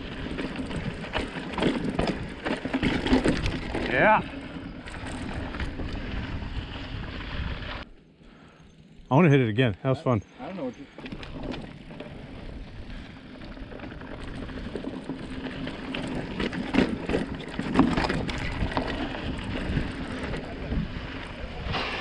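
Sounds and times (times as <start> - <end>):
bike knocking and rattling: 0.0 - 7.6, 10.9 - 21.4
tyre and wind rushing: 0.0 - 7.9, 11.1 - 22.0.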